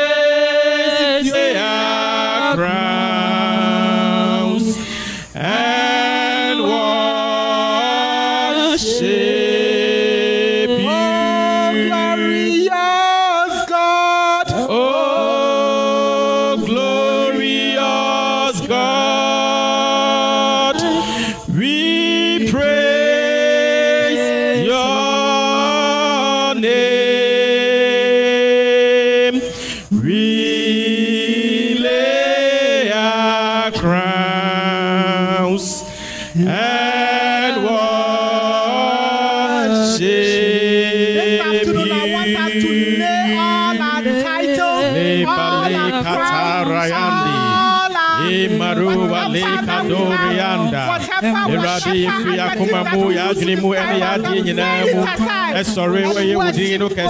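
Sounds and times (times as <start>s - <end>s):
worship singing on microphones: 0.0s - 57.0s.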